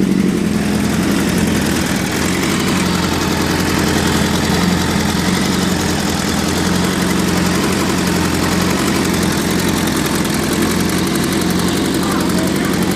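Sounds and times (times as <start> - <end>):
motorcycle engine idling with rattle: 0.0 - 12.9.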